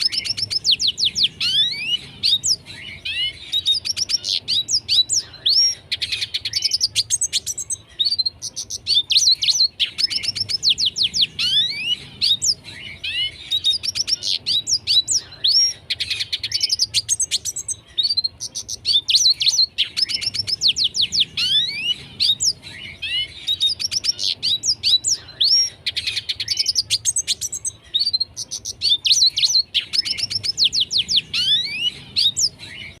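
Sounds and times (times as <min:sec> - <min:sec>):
bird twittering song: 0:00.0 - 0:33.0.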